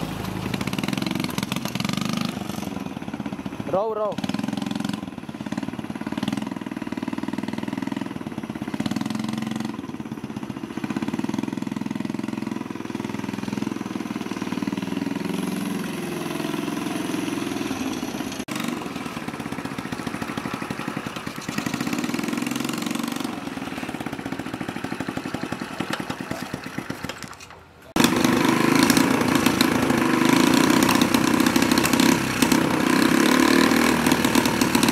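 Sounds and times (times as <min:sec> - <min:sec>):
small motorcycle engine revving: 0:00.0 - 0:27.3, 0:27.9 - 0:34.9.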